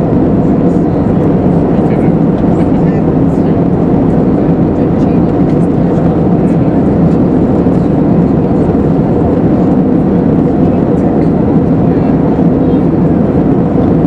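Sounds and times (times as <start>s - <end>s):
airplane cabin airflow and engine noise: 0.0s - 14.0s.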